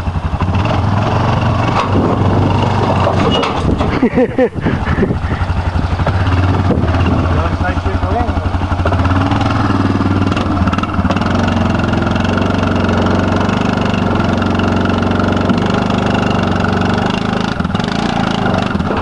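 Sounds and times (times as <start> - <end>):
atv engine running at low revs: 0.0 - 19.0.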